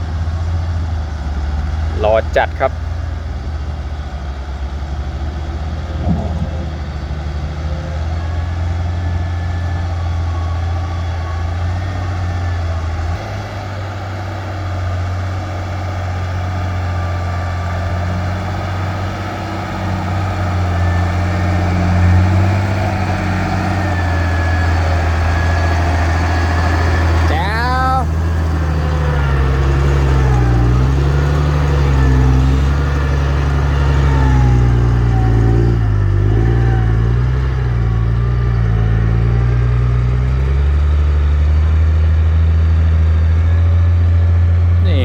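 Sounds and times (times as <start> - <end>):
heavy diesel engine droning: 0.0 - 45.0.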